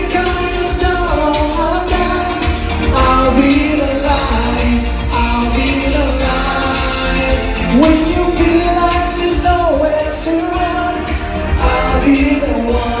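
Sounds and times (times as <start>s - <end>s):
band with drum beat: 0.0s - 13.0s
man singing pop song: 0.0s - 13.0s.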